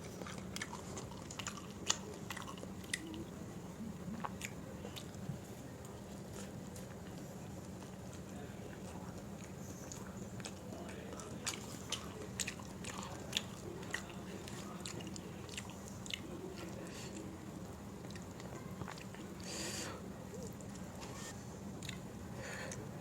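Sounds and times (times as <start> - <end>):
wet chewing with mouth clicks: 0.0 - 22.1
steady low hum: 0.0 - 23.0.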